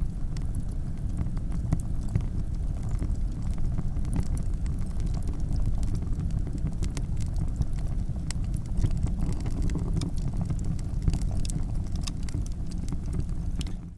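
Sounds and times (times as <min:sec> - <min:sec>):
campfire crackling and popping: 0:00.0 - 0:13.9
low fire rumble: 0:00.0 - 0:13.9.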